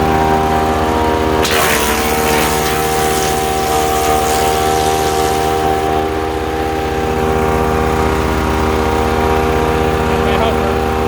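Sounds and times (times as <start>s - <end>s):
wood chipper engine droning: 0.0s - 11.0s.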